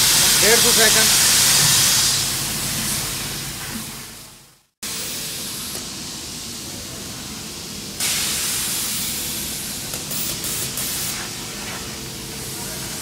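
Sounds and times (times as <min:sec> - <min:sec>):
steady workshop hiss: 0:00.0 - 0:13.0.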